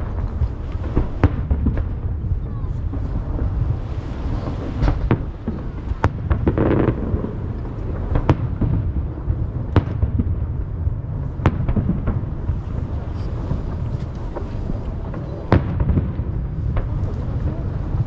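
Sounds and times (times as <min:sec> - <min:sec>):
fireworks bangs: 0:00.0 - 0:18.0
fireworks crackle: 0:00.0 - 0:18.0
low rumble: 0:00.0 - 0:18.0.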